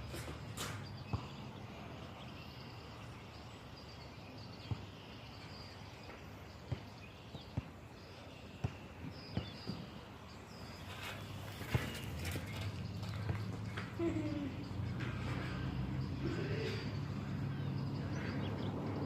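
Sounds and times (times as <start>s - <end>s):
distant birds chirping: 0.0s - 19.0s.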